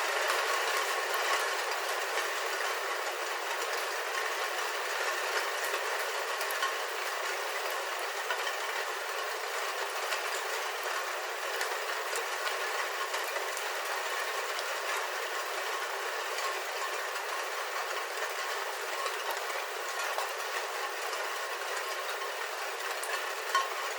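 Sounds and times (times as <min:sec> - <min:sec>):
rain falling on a roof: 0:00.0 - 0:23.9.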